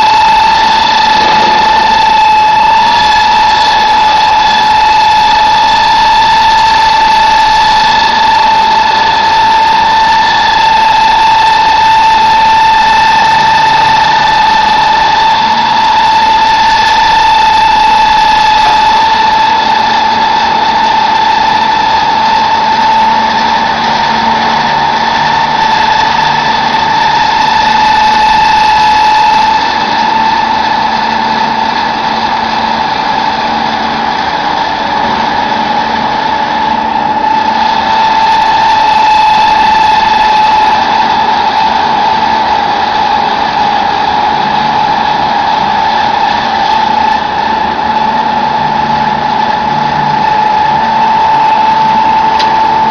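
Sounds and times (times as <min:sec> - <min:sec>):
pellet press machine whining: 0:00.0 - 0:52.9.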